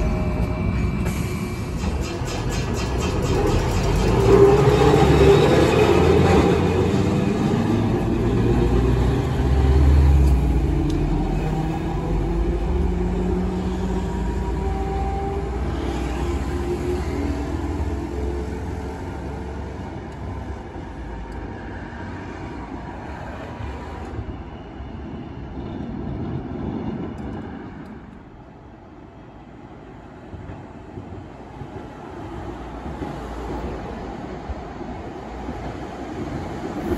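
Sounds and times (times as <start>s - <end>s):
tram pulling away: 0.0s - 36.9s.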